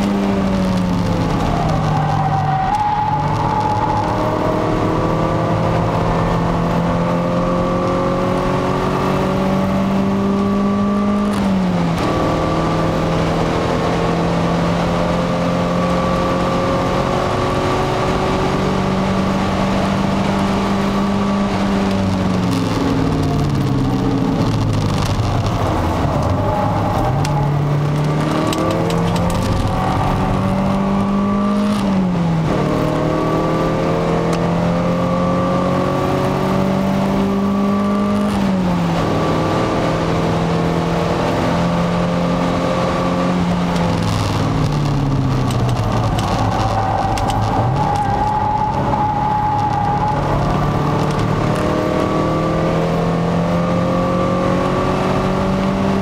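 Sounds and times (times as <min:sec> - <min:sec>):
car engine accelerating through gears: 0:00.0 - 0:56.0
road and wind noise: 0:00.0 - 0:56.0.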